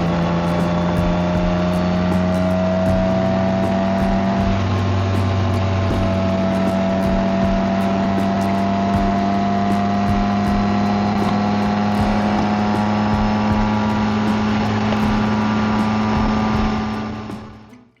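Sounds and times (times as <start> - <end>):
motorcycle engine cruising: 0.0 - 17.7
road and wind noise: 0.0 - 17.8.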